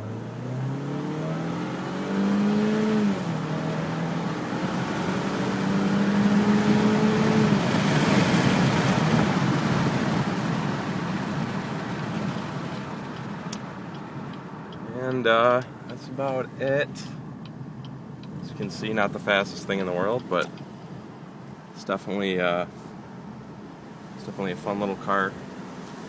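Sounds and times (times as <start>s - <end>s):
car engine accelerating: 0.0s - 21.6s, 23.1s - 26.0s
road and wind noise: 0.0s - 26.0s.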